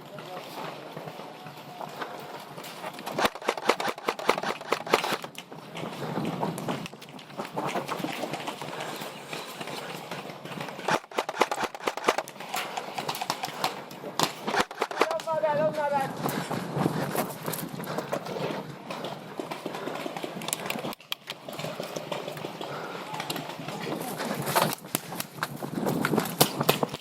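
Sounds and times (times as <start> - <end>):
quick footsteps on ground: 0.0 - 27.0.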